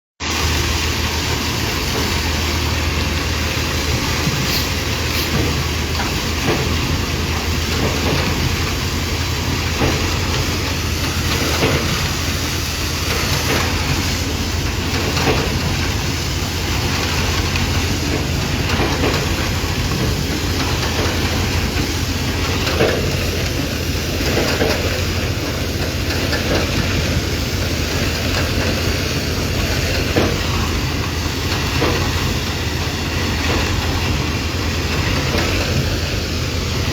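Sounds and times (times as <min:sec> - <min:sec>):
diesel engine drone: 0:00.2 - 0:36.9.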